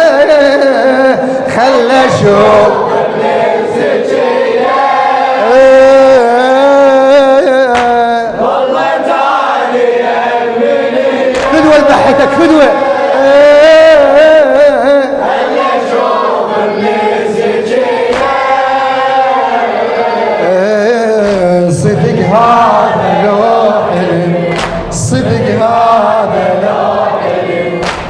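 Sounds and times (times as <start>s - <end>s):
men singing lament in chorus: 0.0s - 28.0s.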